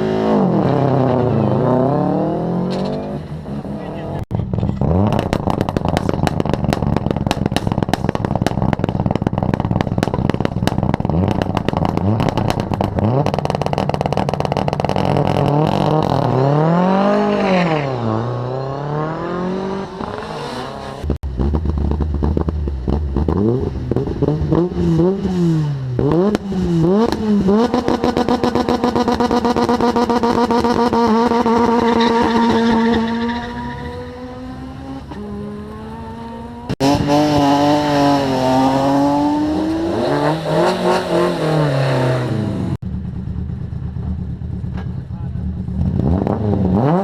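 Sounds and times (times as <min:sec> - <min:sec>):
rally car engine revving: 0:00.0 - 0:47.0.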